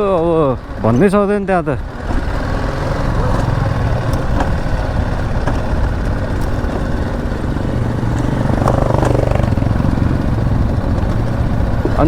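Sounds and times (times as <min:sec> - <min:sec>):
motorcycle engine running: 0:01.8 - 0:12.0.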